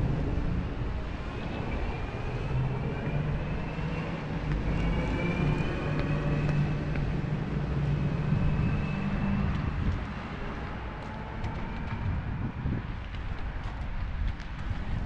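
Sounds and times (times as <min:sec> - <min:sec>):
low hum of motor traffic: 0:00.0 - 0:15.0.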